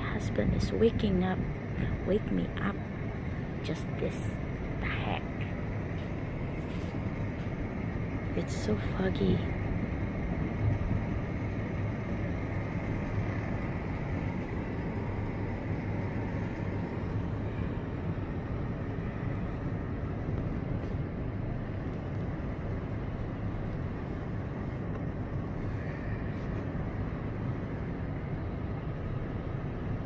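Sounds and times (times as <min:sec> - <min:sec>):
low hum: 0:00.0 - 0:30.0
low rumbling background noise: 0:00.0 - 0:30.0.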